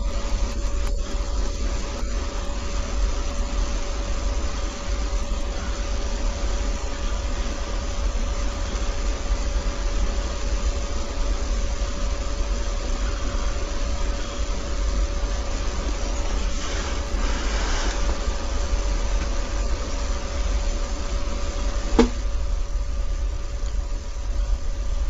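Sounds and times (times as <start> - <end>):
constant hum: 0.0 - 25.0
low rumbling drone: 0.0 - 25.0.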